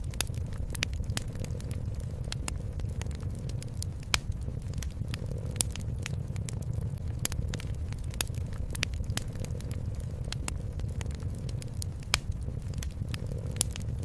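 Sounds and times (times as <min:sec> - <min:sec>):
steady low rumble: 0:00.0 - 0:14.0
wood fire crackling: 0:00.0 - 0:14.0.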